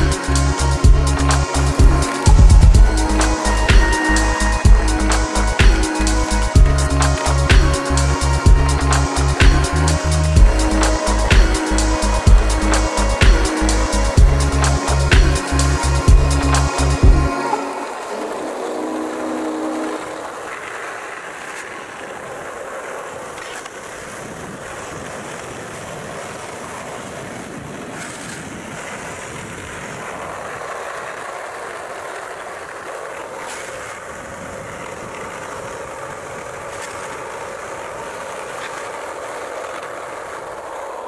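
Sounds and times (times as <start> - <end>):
skateboard wheels rolling on asphalt: 0.0 - 41.0
skateboard clicks: 1.3 - 8.4, 14.6 - 41.0.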